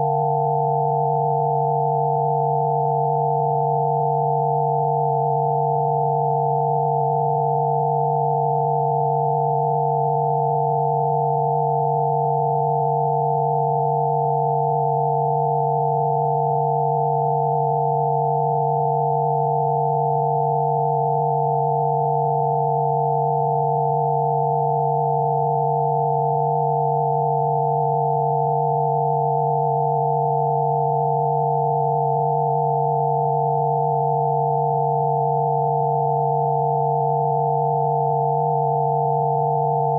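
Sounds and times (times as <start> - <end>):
steady sine tones: 0.0 - 39.9.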